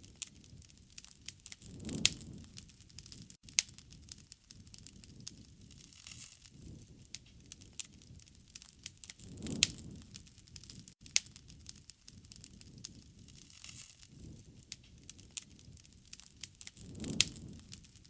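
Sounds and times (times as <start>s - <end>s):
sharp pops of fire: 0.0s - 18.0s
wood fire crackling: 0.0s - 18.0s.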